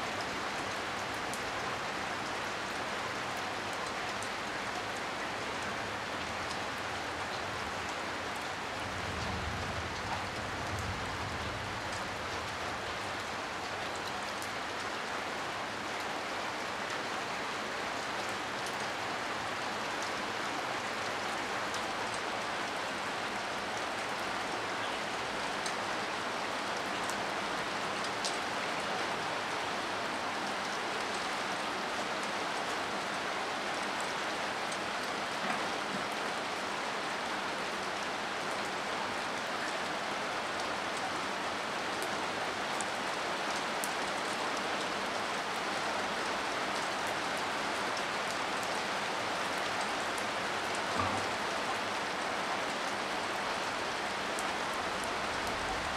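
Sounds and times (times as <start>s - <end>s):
rain on wet pavement: 0.0s - 55.9s.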